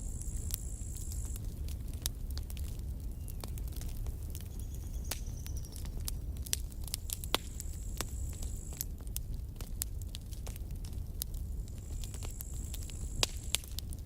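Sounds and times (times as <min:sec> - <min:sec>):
low rumble of flames: 0:00.0 - 0:14.0
wood crackling and popping: 0:00.0 - 0:14.0.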